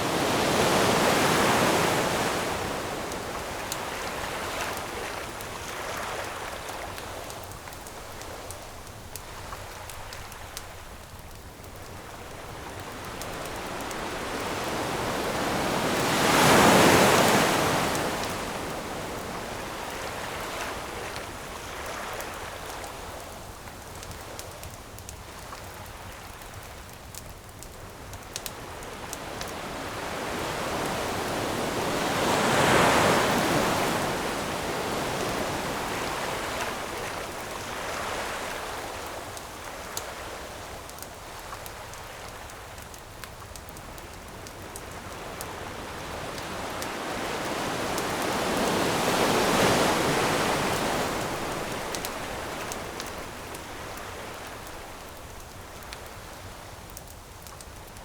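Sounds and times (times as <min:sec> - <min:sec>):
campfire crackling: 0:00.0 - 0:58.0
ocean waves washing onto shore: 0:00.0 - 0:58.0.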